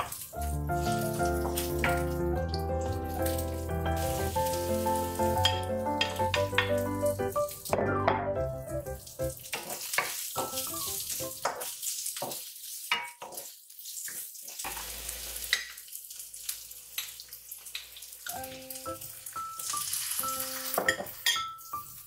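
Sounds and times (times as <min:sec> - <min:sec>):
vegetables sizzling in oil: 0:00.0 - 0:07.8, 0:08.4 - 0:22.0.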